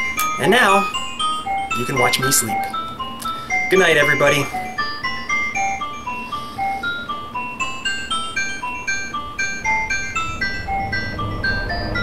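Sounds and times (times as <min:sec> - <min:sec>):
chiming melody of single notes: 0:00.0 - 0:12.0
low musical accompaniment: 0:00.0 - 0:12.0.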